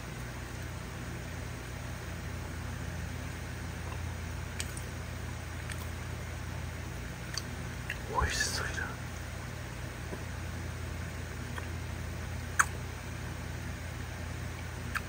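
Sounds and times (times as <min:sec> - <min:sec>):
low hum with faint hiss: 0:00.0 - 0:15.0.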